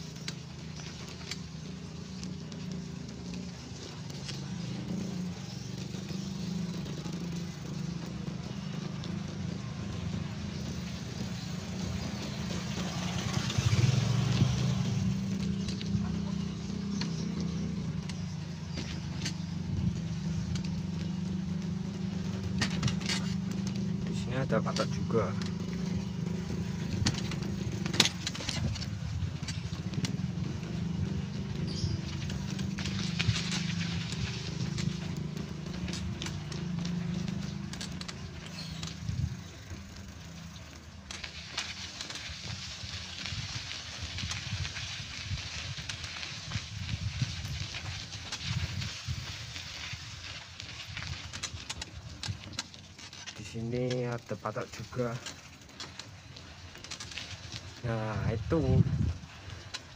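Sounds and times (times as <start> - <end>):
footsteps on gravel path: 0.0 - 59.9
motorcycle engine running: 0.0 - 59.9.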